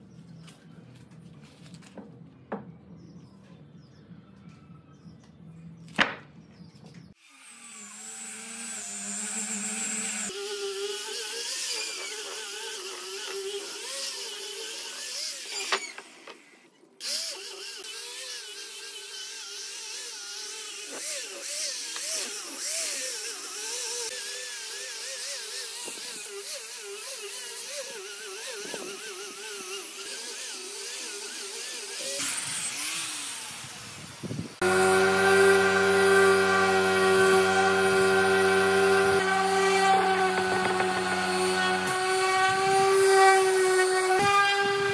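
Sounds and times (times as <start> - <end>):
orbital sander on wood: 7.2 - 15.9, 17.0 - 44.9
louder sander motor: 7.2 - 16.0, 17.0 - 44.9.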